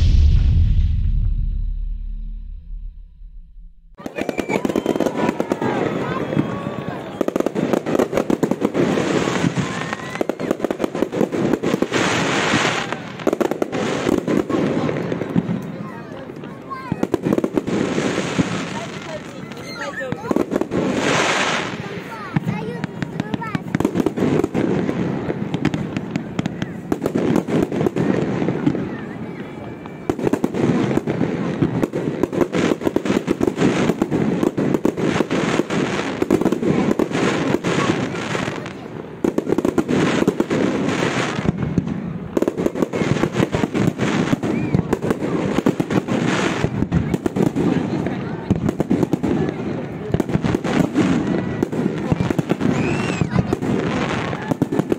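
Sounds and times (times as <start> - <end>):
fireworks bangs and crackles: 0.0 - 54.9
fireworks hissing crackle: 0.0 - 54.9.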